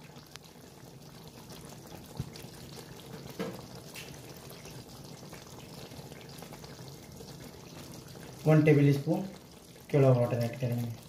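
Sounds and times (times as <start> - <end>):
thick gravy bubbling in pot: 0.0 - 11.0.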